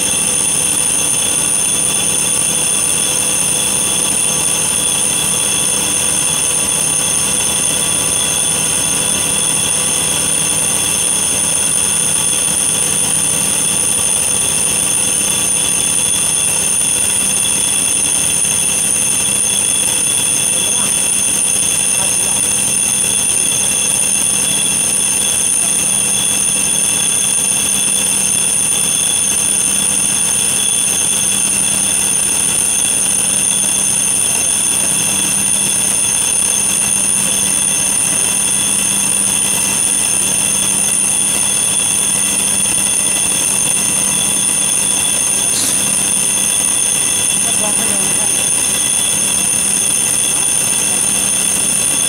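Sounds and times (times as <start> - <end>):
milling machine whine: 0.0 - 52.0.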